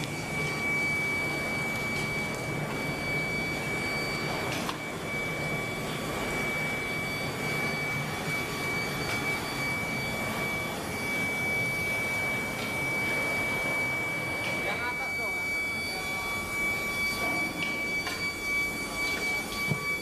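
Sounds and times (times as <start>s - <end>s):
furnace roar: 0.0s - 20.0s
high-pitched machinery whine: 0.0s - 20.0s.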